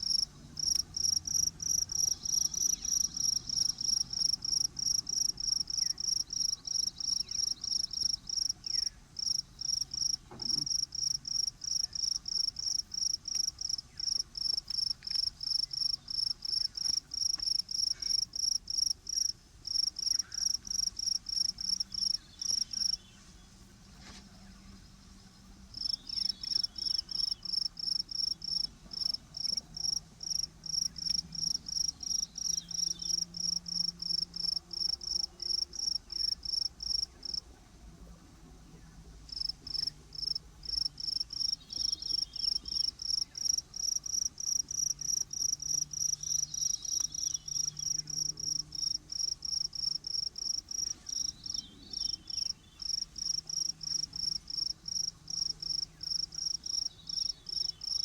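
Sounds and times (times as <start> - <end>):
cricket chirping: 0.0 - 23.0, 25.7 - 37.4, 39.3 - 58.0
faint low hum: 0.0 - 58.0.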